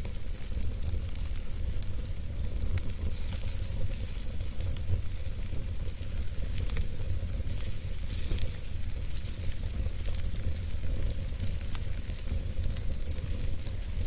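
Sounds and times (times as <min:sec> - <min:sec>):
wood fire burning and crackling: 0:00.0 - 0:14.0.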